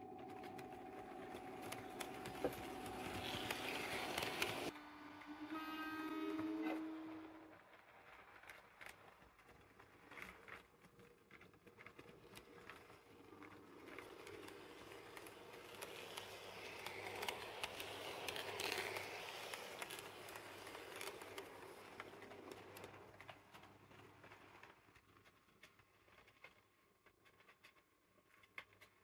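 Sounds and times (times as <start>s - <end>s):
wheels clicking over rail joints: 0.0s - 4.8s, 7.7s - 27.8s
model train rumbling: 0.0s - 25.3s.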